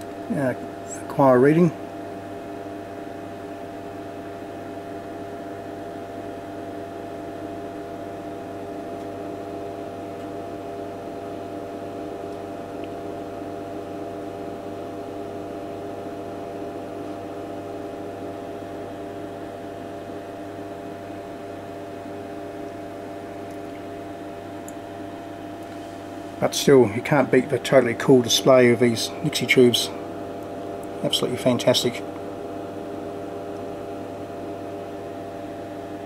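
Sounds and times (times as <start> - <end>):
mains hum with steady tones: 0.0 - 36.0.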